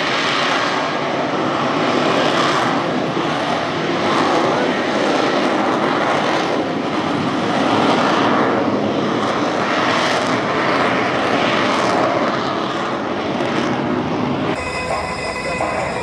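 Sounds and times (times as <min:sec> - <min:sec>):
airplane engine overhead: 0:00.0 - 0:16.0.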